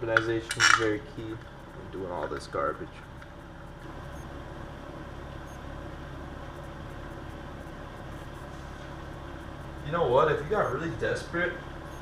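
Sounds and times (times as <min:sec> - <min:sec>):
low hum with faint hiss: 0:00.0 - 0:12.0.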